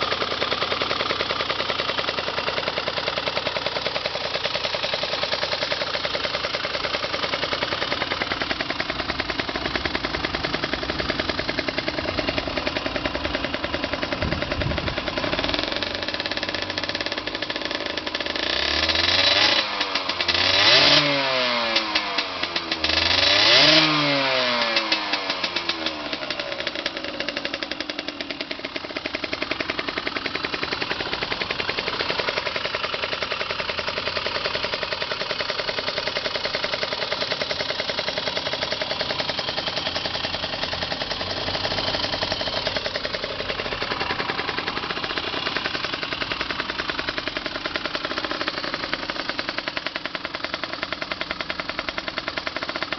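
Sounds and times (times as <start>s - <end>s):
two-stroke motorcycle engine idling: 0.0s - 52.9s.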